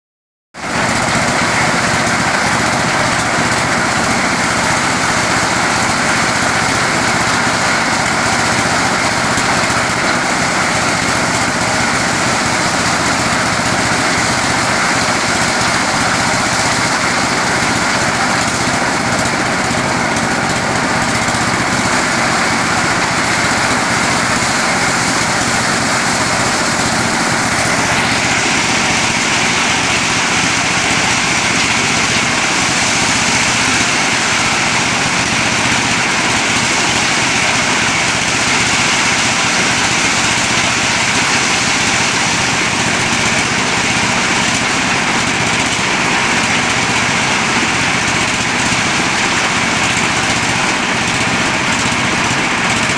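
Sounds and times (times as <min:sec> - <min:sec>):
small engine hum: 0:00.6 - 0:52.9.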